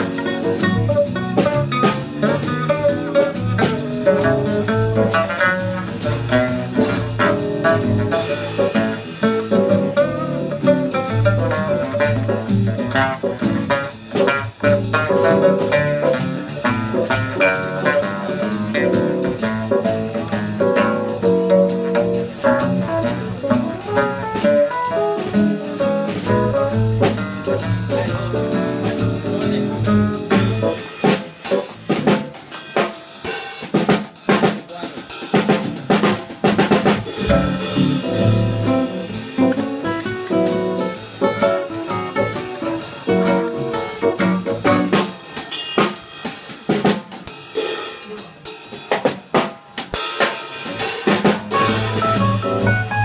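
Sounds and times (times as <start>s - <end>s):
acoustic guitars playing jazz: 0.0s - 32.6s, 35.4s - 46.0s, 51.0s - 53.0s
snare drum: 0.0s - 53.0s.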